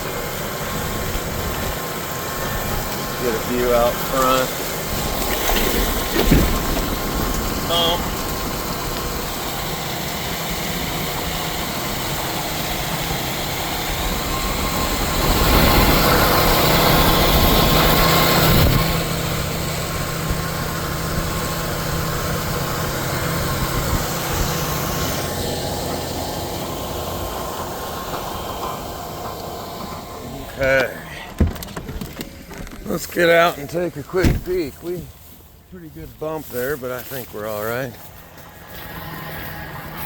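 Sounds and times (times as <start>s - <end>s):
tractor and implement rattle: 0.0s - 40.0s
tractor engine running: 0.0s - 40.0s.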